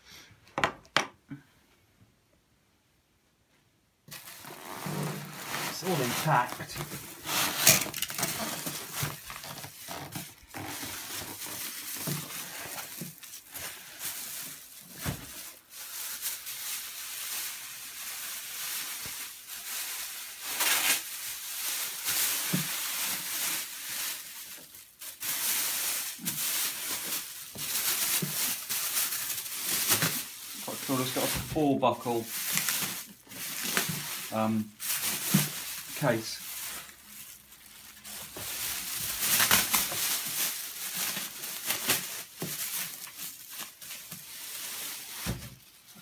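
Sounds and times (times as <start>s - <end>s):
plastic wrapping crinkling: 4.0s - 46.0s.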